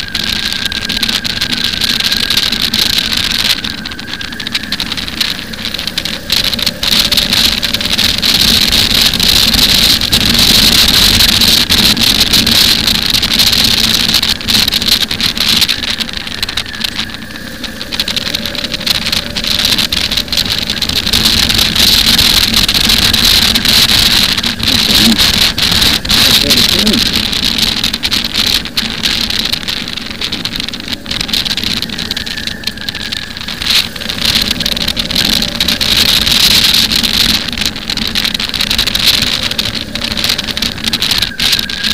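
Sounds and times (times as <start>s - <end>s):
motorcycle engine: 0.0s - 41.9s
wind rush on microphone: 0.0s - 41.9s.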